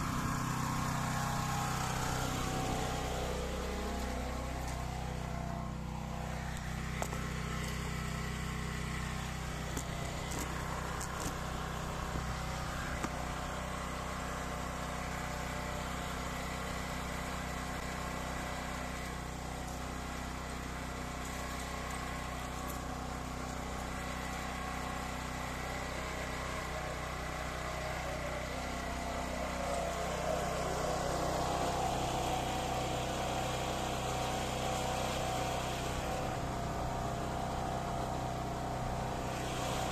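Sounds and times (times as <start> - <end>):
pressure washer engine hum: 0.0 - 39.9.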